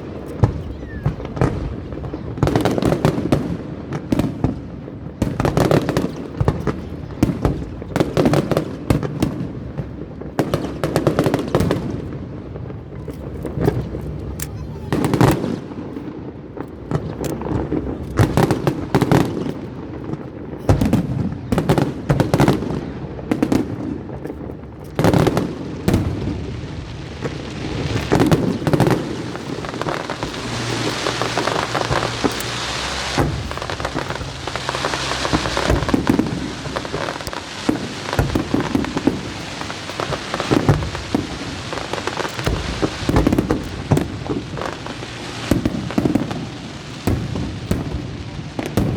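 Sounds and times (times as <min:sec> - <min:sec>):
fireworks booming bangs: 0:00.0 - 0:48.9
fireworks crackling hiss: 0:00.0 - 0:48.9.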